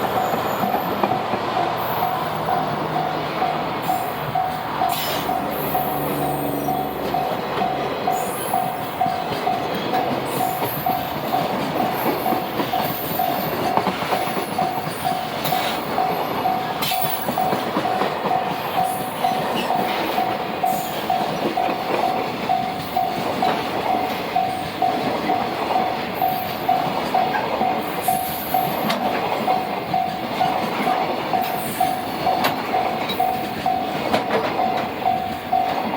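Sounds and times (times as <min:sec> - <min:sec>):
level crossing alarm ringing: 0:00.0 - 0:35.9
train rail rumble: 0:00.0 - 0:35.9.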